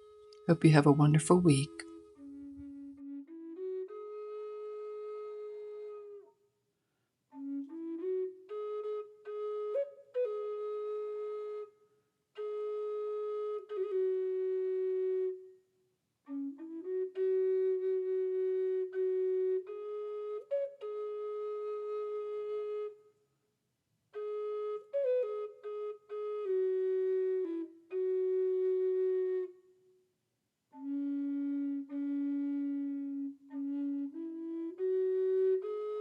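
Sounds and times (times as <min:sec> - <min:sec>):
flute-like slow melody: 0:00.0 - 0:06.6, 0:07.2 - 0:23.3, 0:24.1 - 0:30.1, 0:30.7 - 0:36.0.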